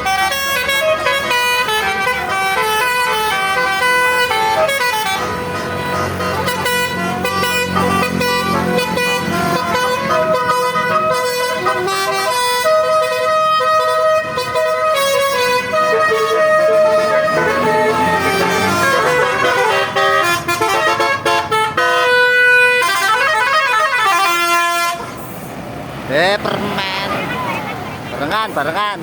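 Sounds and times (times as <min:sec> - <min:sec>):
musical bus air horn: 0:00.0 - 0:25.6.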